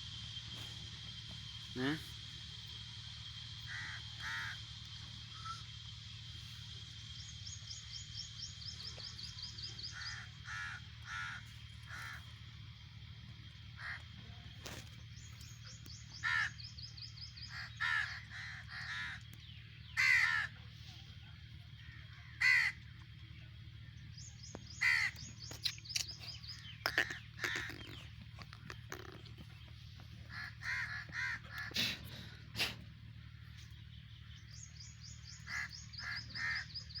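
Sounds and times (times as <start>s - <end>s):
harsh bird calls: 0.0s - 12.6s, 13.6s - 20.7s, 21.7s - 23.1s, 24.0s - 37.0s
steady low hum: 0.0s - 37.0s.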